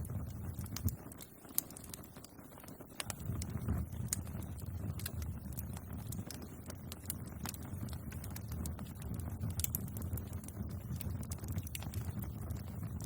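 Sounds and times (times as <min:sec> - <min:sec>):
bonfire crackling and popping: 0:00.0 - 0:13.0
low rumble of fire: 0:00.0 - 0:13.0.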